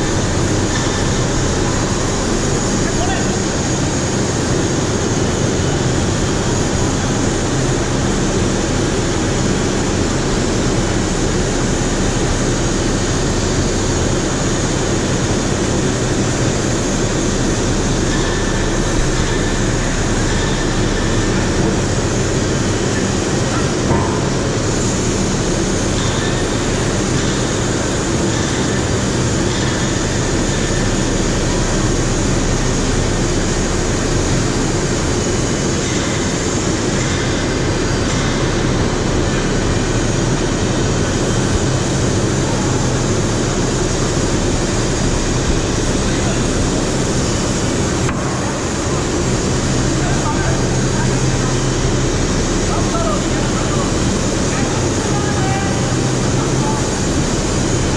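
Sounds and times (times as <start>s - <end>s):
industrial machinery drone: 0.0s - 57.9s.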